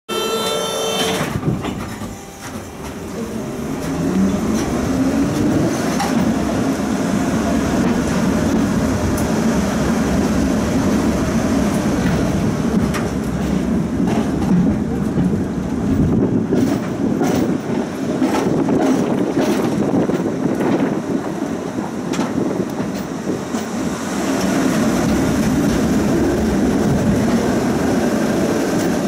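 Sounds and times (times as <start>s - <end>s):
wheels rumbling on rails: 0.2s - 29.0s.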